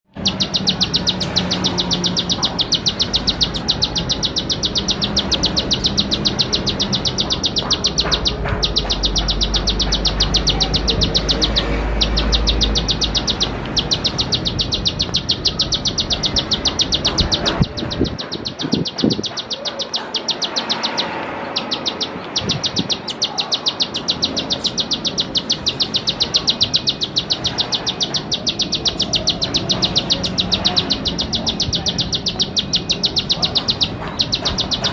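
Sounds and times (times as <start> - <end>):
bird rapid clicking call: 0.0 - 34.9.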